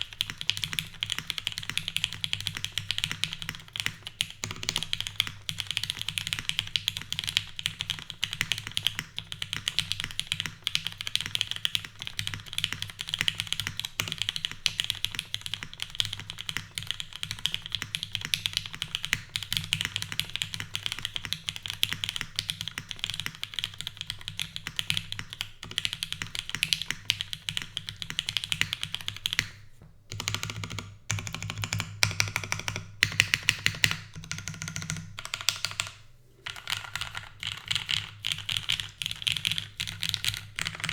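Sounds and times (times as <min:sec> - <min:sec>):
fast typing on mechanical keyboard: 0:00.0 - 0:29.5, 0:30.1 - 0:40.9.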